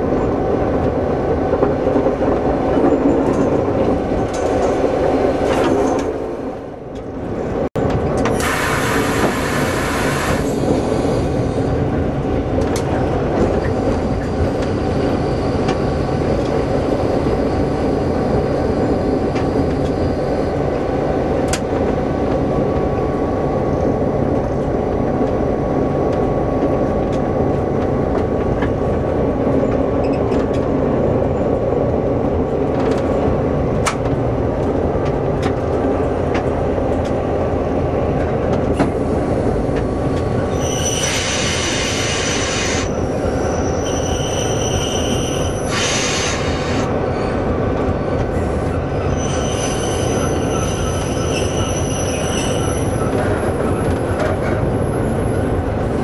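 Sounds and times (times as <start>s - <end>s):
diesel locomotive engine droning: 0.0s - 56.0s.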